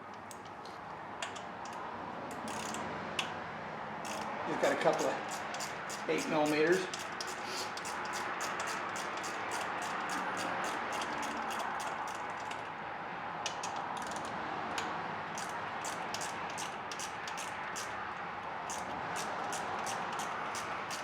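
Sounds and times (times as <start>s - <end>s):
socket ratchet clicking: 1.2s - 3.4s, 4.0s - 12.7s, 13.4s - 21.0s.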